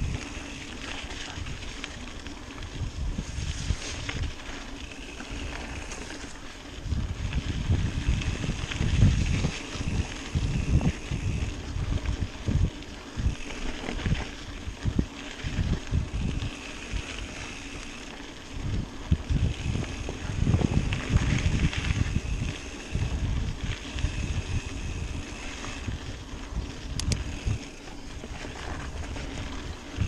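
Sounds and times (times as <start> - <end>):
bike rolling on trail: 0.0 - 30.0
wind buffeting microphone: 0.0 - 30.0.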